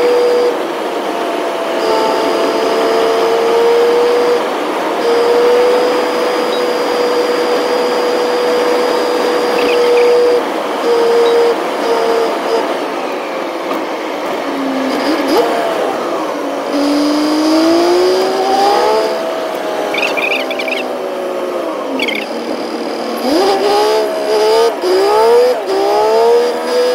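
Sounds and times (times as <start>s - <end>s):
engine whine: 0.0s - 26.9s
truck road and engine noise: 0.0s - 26.9s.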